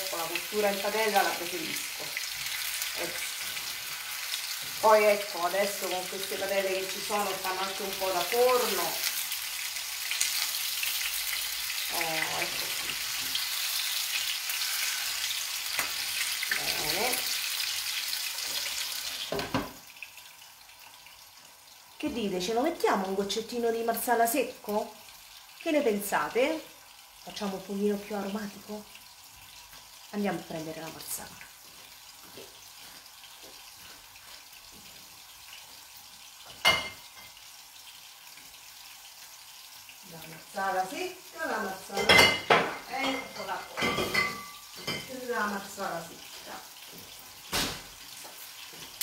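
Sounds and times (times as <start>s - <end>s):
food sizzling in oil: 0.0s - 49.0s.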